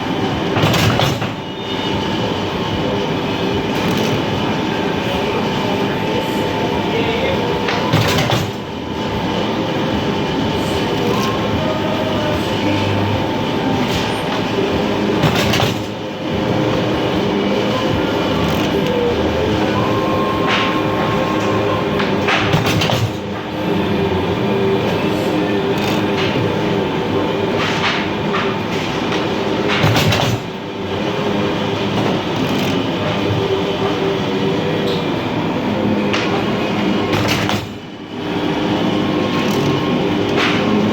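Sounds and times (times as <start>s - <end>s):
constant machine whine: 0.0s - 40.9s
machine clatter and hum: 0.0s - 40.9s.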